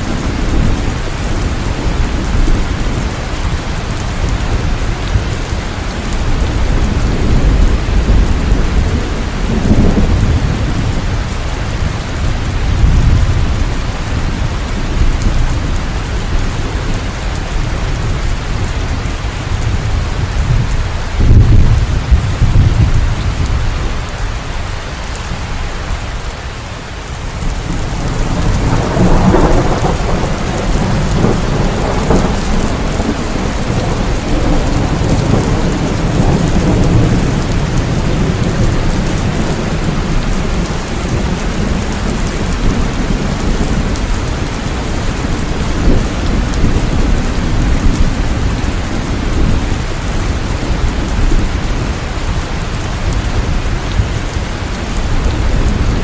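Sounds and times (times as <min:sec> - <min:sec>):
thunder rumbling: 0:00.0 - 0:26.2, 0:27.1 - 0:56.0
heavy rain: 0:00.0 - 0:56.0.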